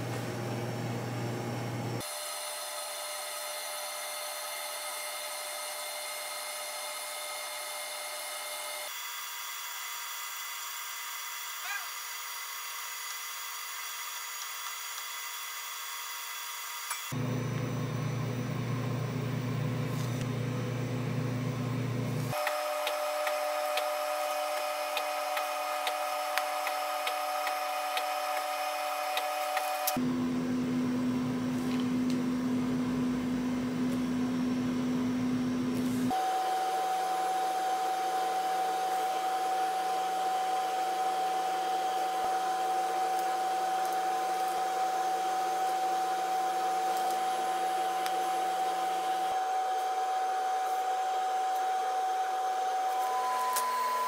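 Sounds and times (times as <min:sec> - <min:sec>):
electric motor whirring hum: 0:00.0 - 0:54.0.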